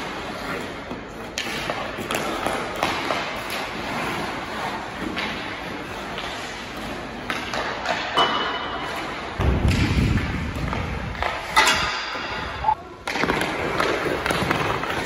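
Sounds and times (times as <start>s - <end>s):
skates scraping ice: 0.0s - 15.0s
stick hitting puck: 0.0s - 15.0s.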